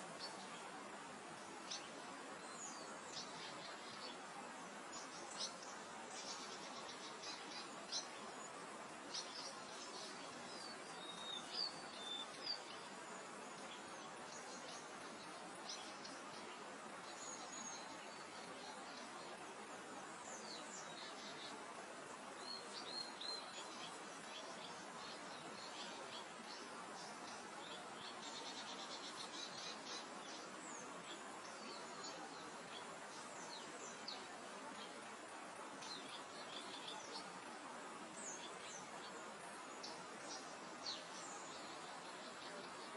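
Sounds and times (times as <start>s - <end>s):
soft wind-like haze: 0.0s - 42.9s
songbirds chirping: 0.0s - 42.9s.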